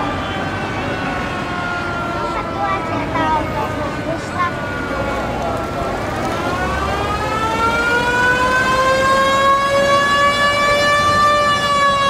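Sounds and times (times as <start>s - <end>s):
mechanical siren wailing: 0.0s - 12.0s.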